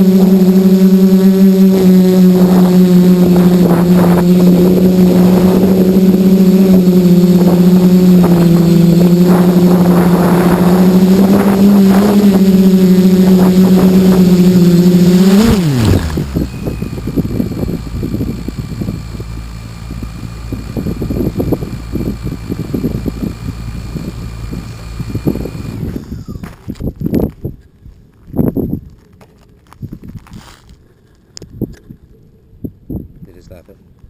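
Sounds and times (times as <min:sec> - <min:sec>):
quadcopter motors buzzing: 0:00.0 - 0:27.3.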